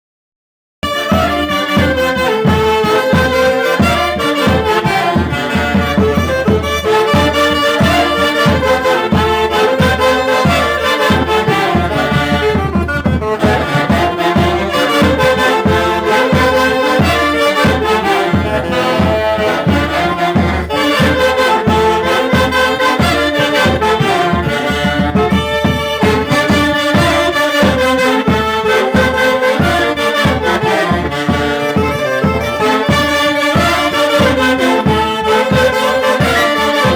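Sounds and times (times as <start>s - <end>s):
traditional band playing: 0.8s - 36.9s.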